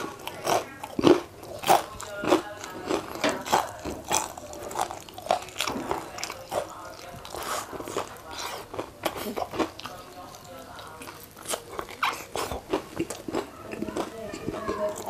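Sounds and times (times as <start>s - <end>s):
person chewing crisp food: 0.0s - 15.0s.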